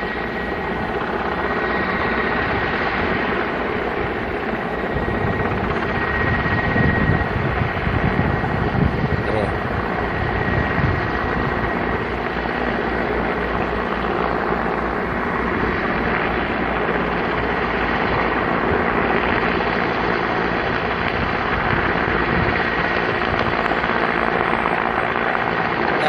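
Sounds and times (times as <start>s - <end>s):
distant helicopter engine and rotor: 0.0s - 26.0s.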